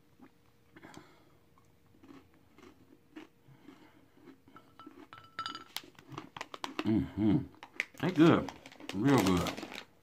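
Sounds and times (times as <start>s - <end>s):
person chewing crunchy food: 0.2s - 9.8s.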